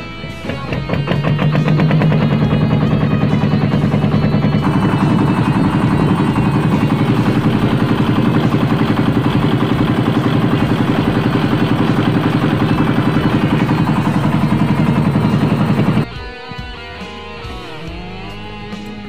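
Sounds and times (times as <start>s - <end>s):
boat engine throbbing: 0.0s - 16.1s.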